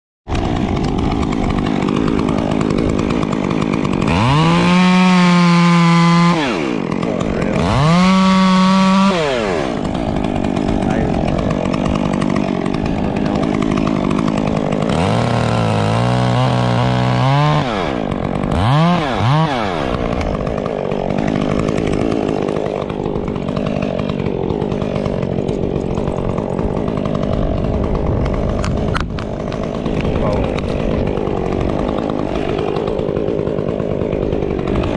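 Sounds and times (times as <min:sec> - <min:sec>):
chainsaw idling and revving: 0:00.3 - 0:34.9.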